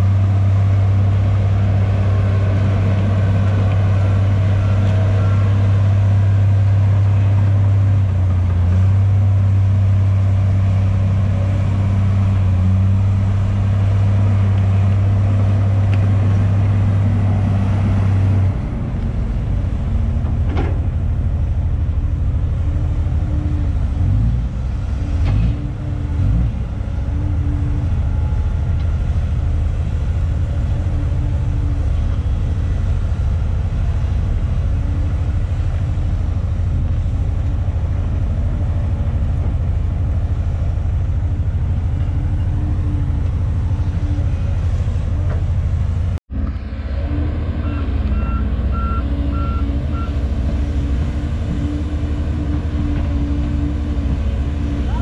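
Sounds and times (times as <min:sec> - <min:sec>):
heavy machinery diesel engines droning: 0:00.0 - 0:55.0.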